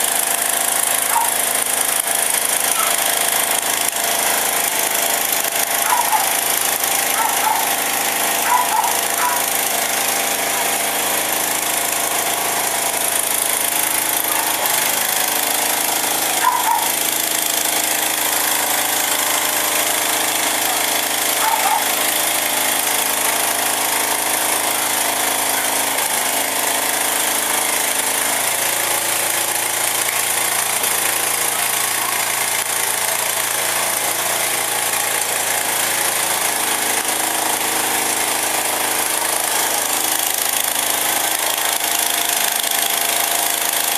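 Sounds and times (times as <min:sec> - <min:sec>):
fire truck engine running: 0:00.0 - 0:43.9.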